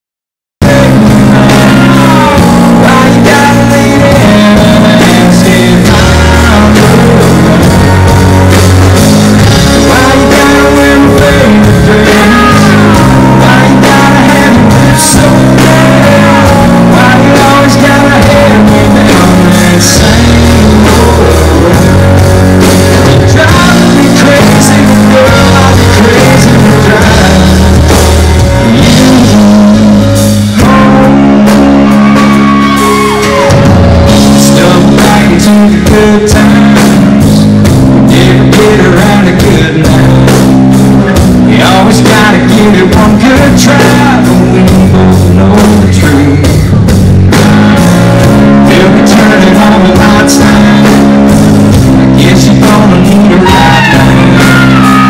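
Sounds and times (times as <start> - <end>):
lead vocal singing: 0.6 - 55.0
live country-rock band playing: 0.6 - 55.0
sliding high guitar notes: 0.6 - 55.0.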